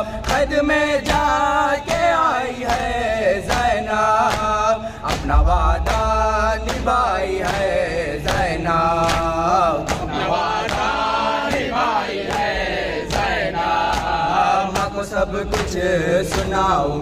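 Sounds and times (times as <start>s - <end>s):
men singing in chorus: 0.0s - 17.0s
hands slapping chests: 0.2s - 16.6s.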